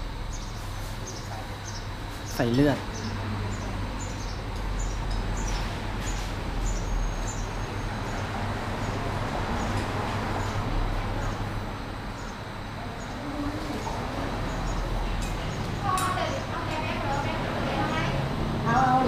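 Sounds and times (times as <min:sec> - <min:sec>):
kitchen hum and hiss: 0:00.0 - 0:19.0.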